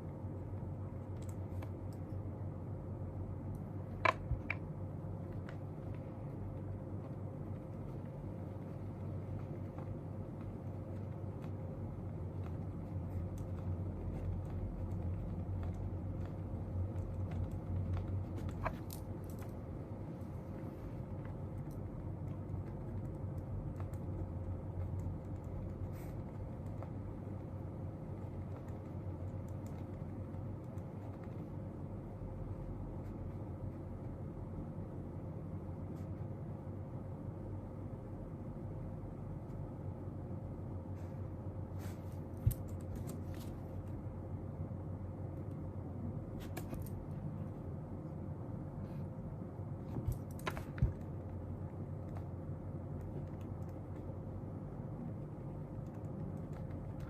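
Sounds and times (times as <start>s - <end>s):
faint constant tone: 0.0s - 57.0s
low room hum: 0.0s - 57.0s.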